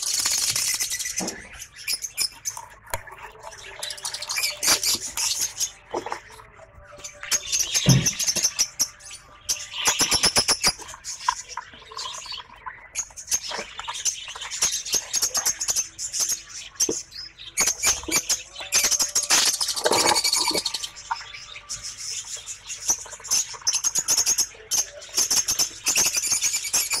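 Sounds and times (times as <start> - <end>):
bird chicks chirping: 0.0 - 27.0.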